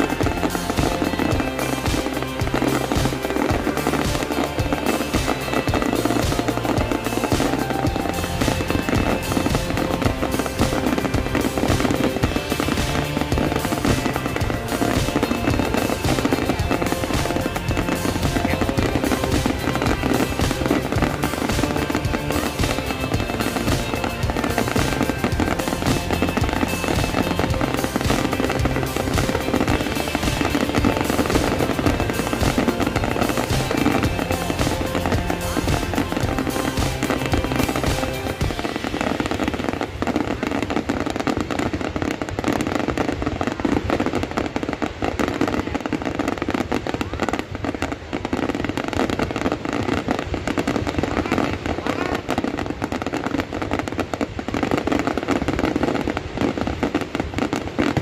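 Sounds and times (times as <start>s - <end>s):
fireworks crackling and popping: 0.0s - 58.0s
music playing: 0.0s - 58.0s.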